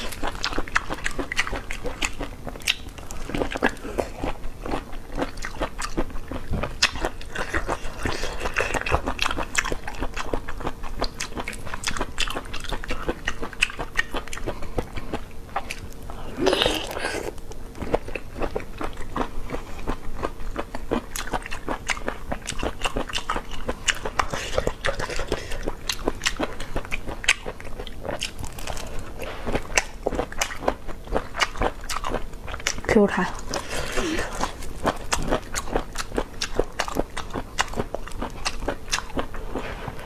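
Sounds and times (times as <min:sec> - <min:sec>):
person biting and chewing: 0:00.0 - 0:32.8, 0:33.4 - 0:40.0.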